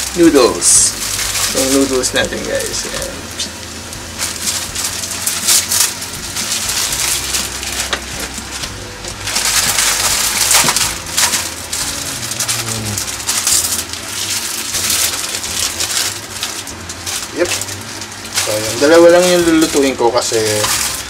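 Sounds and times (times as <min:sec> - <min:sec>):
plastic packaging crinkling: 0:00.0 - 0:21.0
vegetables sizzling in frying pan: 0:00.0 - 0:21.0.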